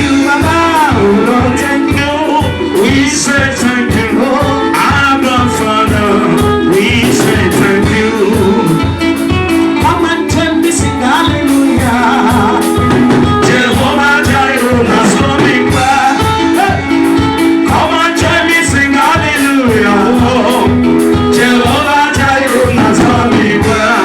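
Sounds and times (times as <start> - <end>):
held instrument chords: 0.0 - 24.0
person singing: 0.0 - 24.0
quick drum beat: 0.0 - 24.0.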